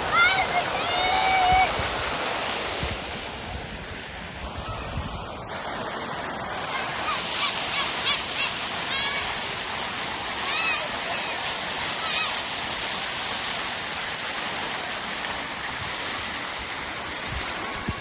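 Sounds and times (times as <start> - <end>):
water fountain splashing: 0.0 - 18.0.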